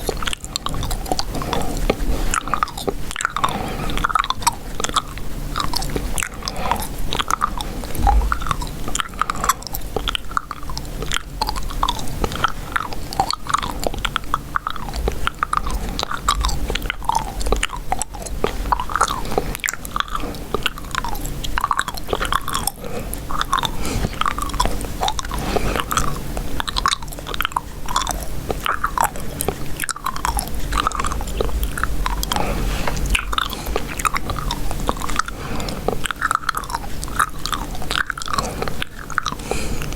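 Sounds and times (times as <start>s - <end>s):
gum chewing mouth smacking: 0.0s - 39.9s.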